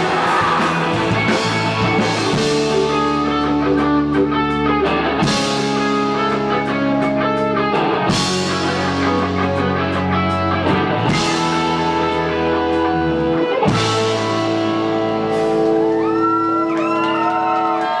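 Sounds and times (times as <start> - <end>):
sliding guitar notes: 0.0 - 16.0
guitar chords: 0.0 - 16.7.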